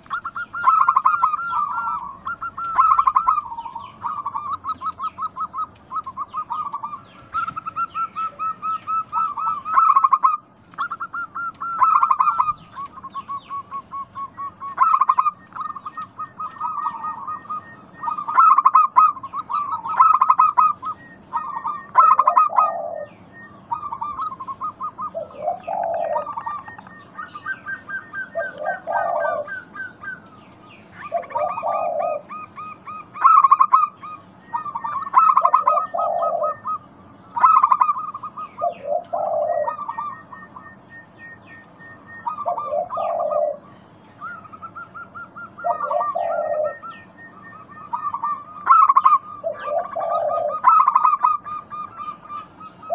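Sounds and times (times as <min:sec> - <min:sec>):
doves calling rapid notes: 0:00.0 - 0:52.9
low dove cooing: 0:00.0 - 0:52.9.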